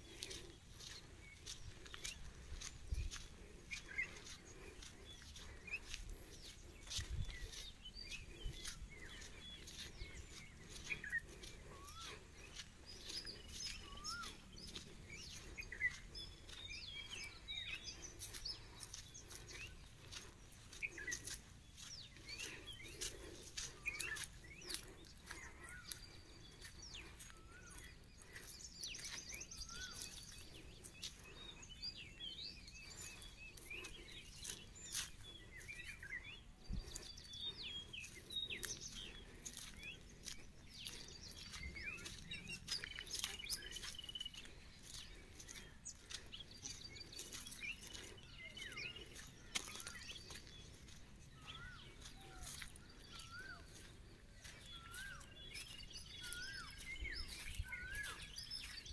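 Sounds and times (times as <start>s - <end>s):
birds chirping and whistling: 0.0s - 58.9s.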